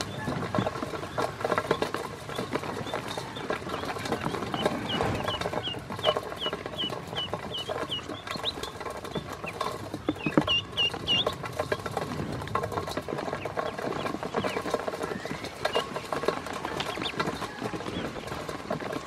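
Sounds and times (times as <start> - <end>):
ducklings peeping: 0.0 - 12.2, 12.8 - 19.0
bills tapping on metal bowl: 0.0 - 19.0.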